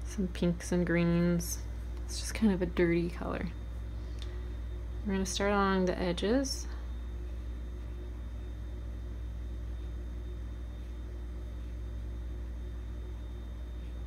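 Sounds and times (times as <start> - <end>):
low room hum with hiss: 0.0 - 14.0.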